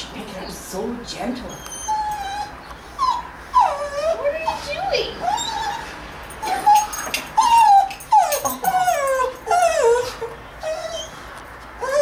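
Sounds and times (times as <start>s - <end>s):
dog whining: 1.4s - 12.0s.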